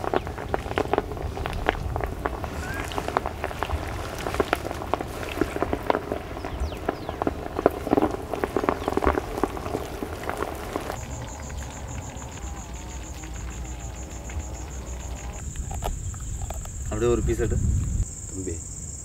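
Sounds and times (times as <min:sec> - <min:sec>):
dense crackling and popping: 0:00.0 - 0:18.6
insect chirping trill: 0:00.0 - 0:19.0.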